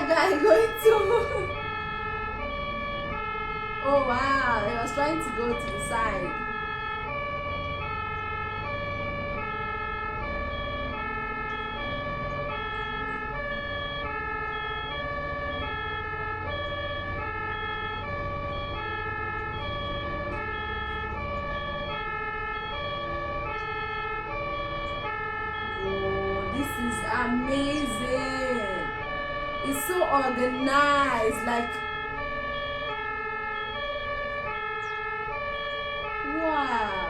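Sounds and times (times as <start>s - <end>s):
low road rumble: 0.0s - 37.0s
two-tone ambulance siren: 0.0s - 37.0s.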